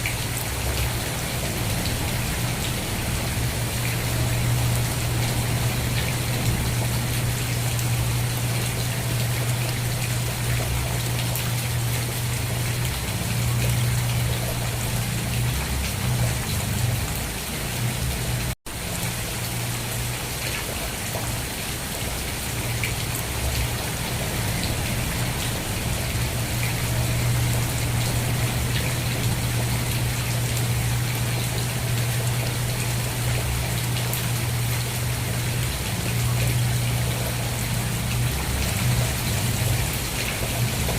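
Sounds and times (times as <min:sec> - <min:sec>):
dense rainfall: 0:00.0 - 0:40.9.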